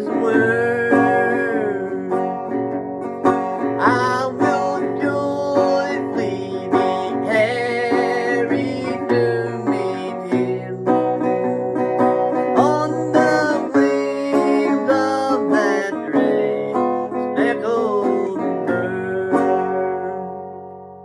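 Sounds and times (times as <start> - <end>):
plucked guitar with bent notes: 0.0 - 21.0.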